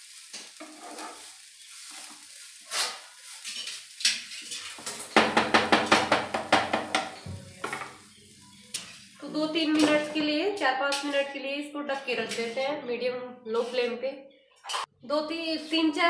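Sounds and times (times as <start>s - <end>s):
spoon scraping a pan: 0.4s - 12.9s, 13.5s - 14.0s, 14.6s - 16.0s.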